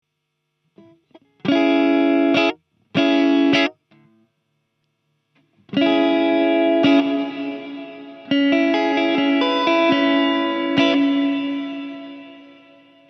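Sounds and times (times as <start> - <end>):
electric guitar strummed chords: 0.8 - 4.2, 5.4 - 13.0.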